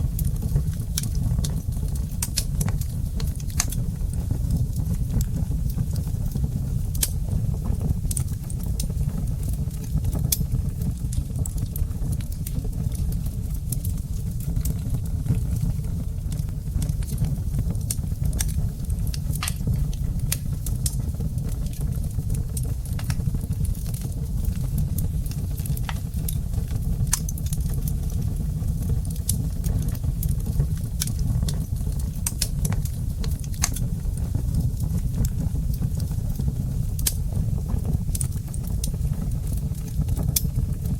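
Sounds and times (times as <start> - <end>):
low fire rumble: 0.0 - 40.9
wood fire crackling: 0.0 - 40.9.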